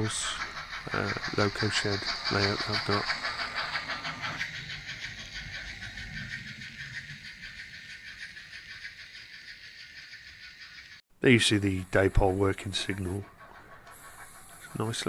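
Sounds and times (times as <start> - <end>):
model locomotive steam chuffs: 0.0 - 15.0
model train mechanism noise: 0.0 - 15.0.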